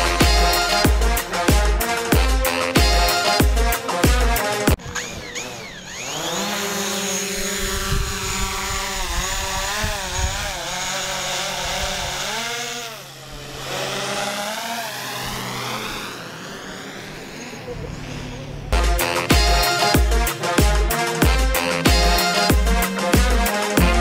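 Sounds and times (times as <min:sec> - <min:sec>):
drone propellers buzzing: 0:00.0 - 0:24.0.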